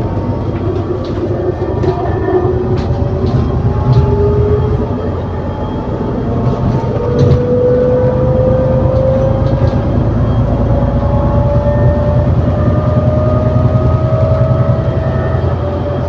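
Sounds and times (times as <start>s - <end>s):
bus engine under load: 0.0s - 16.0s
drivetrain whine rising: 0.0s - 16.0s.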